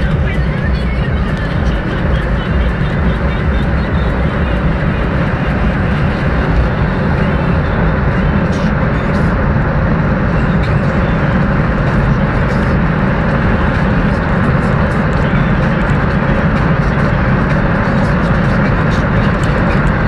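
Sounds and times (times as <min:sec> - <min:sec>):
car engine accelerating: 0:00.0 - 0:20.0
wind and road noise: 0:00.0 - 0:20.0.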